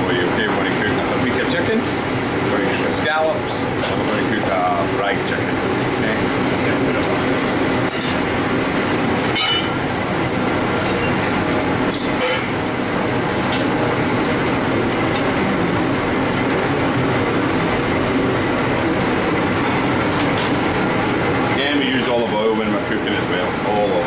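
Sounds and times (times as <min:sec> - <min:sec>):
extraction hood fan roaring: 0:00.0 - 0:24.0
gas burners roaring: 0:00.0 - 0:24.0.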